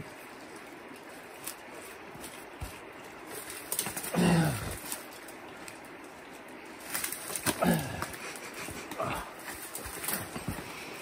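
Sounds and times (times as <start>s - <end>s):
footsteps through undergrowth: 0.0s - 11.0s.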